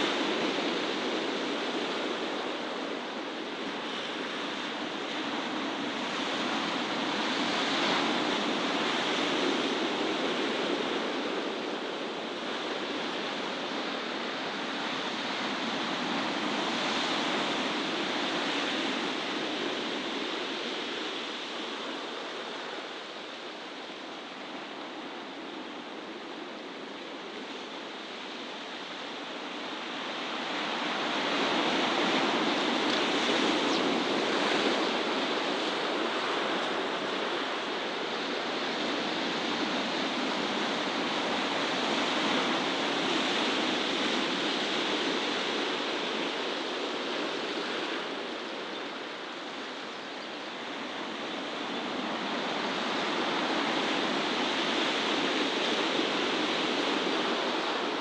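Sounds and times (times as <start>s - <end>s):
sea surf: 0.0s - 58.0s
wind: 0.0s - 58.0s.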